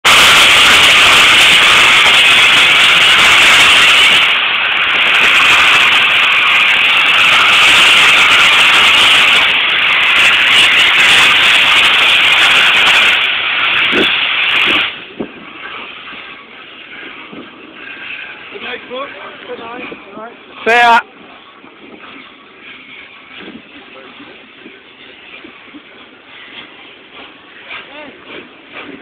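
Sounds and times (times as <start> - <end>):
steam locomotive hissing: 0.0 - 29.0.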